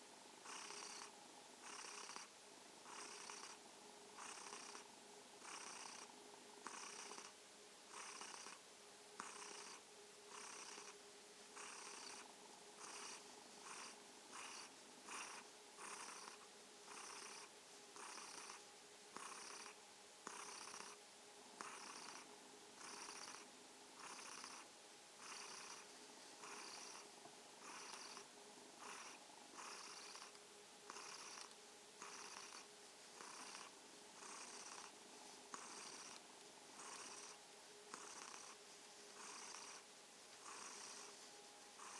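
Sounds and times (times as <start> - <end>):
cat purring: 0.4 - 3.6, 4.2 - 8.6, 9.2 - 11.0, 11.6 - 21.0, 21.6 - 41.9.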